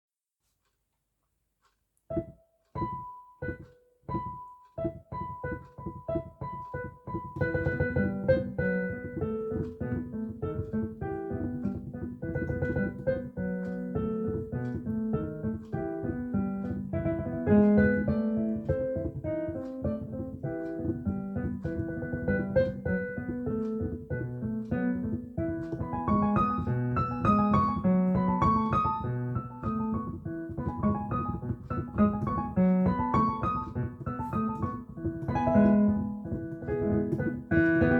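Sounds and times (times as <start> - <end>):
piano playing children's tune: 2.1 - 37.9.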